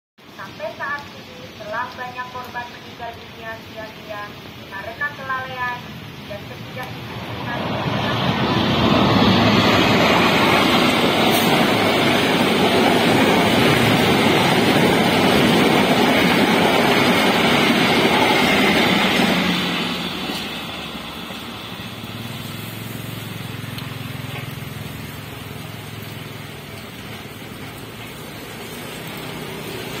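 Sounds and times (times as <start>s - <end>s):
heavy rain: 0.2s - 30.0s
train passing at speed: 1.6s - 30.0s.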